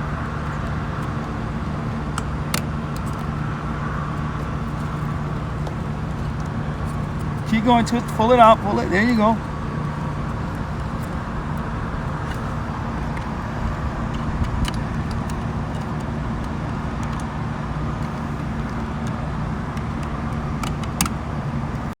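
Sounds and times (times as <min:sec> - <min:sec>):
low outdoor hum and rumble: 0:00.0 - 0:22.0.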